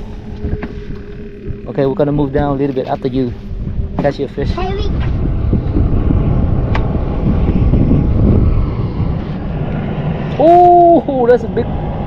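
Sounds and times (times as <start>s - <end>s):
low rumble: 0.0s - 12.0s
wind on microphone: 0.0s - 12.0s.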